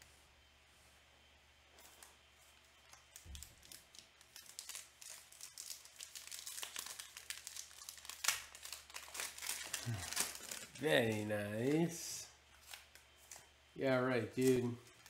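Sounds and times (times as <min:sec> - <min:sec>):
plastic wrapping crinkling: 0:01.7 - 0:13.5, 0:14.3 - 0:15.0.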